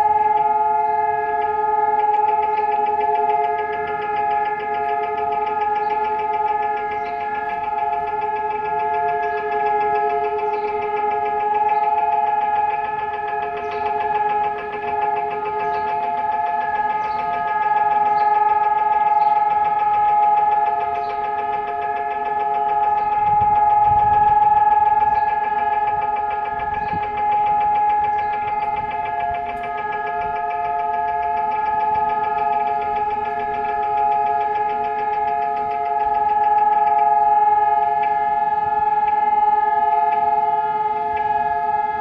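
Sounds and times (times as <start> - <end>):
sirens steady tone: 0.0 - 42.0.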